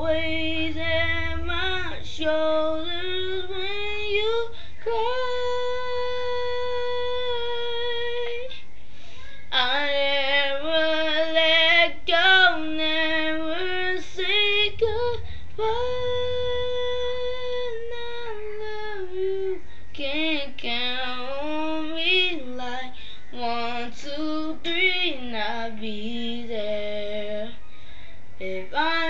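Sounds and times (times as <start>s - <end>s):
young woman singing unaccompanied: 0.0s - 29.0s.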